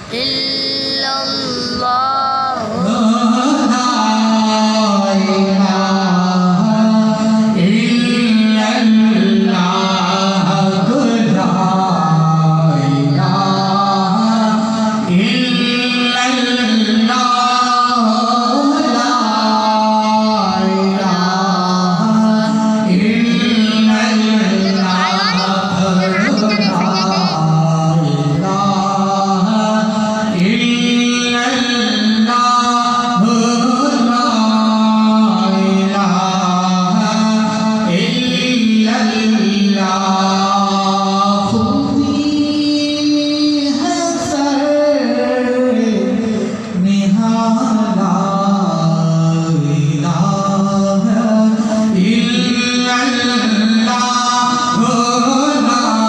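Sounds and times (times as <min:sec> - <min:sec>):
man chanting into a microphone: 0:00.0 - 0:56.0.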